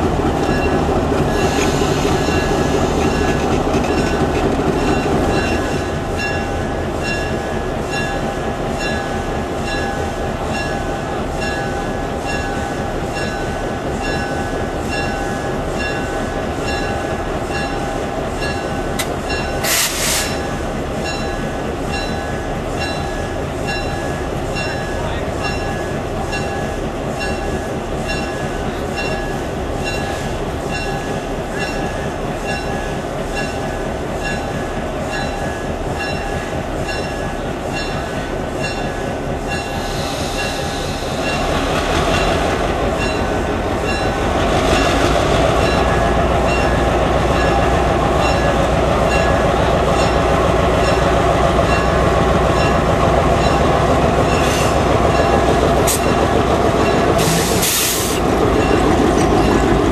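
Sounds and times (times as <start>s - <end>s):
diesel locomotive engine throbbing: 0.0s - 59.9s
locomotive bell ringing: 0.4s - 19.7s, 20.3s - 45.0s, 45.6s - 57.4s, 58.5s - 59.9s.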